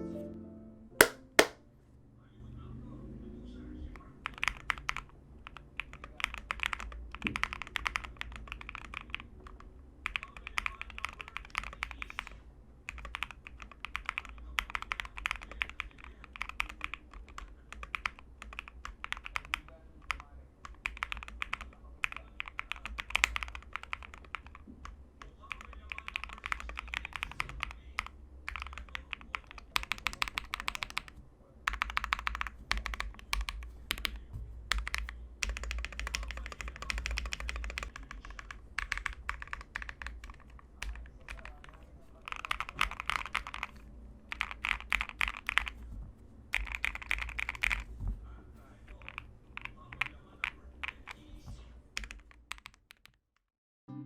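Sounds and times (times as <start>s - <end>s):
fast typing on mechanical keyboard: 4.0s - 48.0s, 48.6s - 51.4s, 52.0s - 53.2s.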